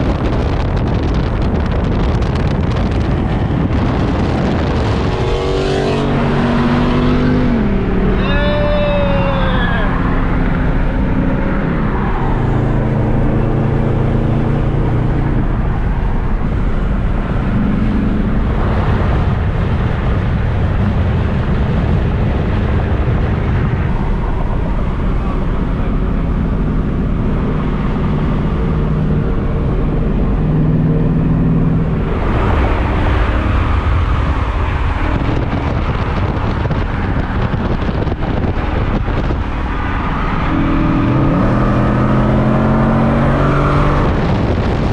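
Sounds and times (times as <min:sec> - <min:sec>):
tyre and wind noise: 0:00.0 - 0:44.9.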